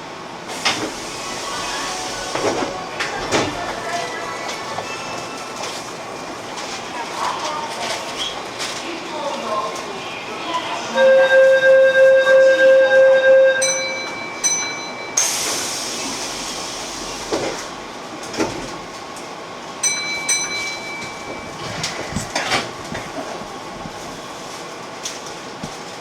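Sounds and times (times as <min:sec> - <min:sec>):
train running noise: 0:00.0 - 0:26.0.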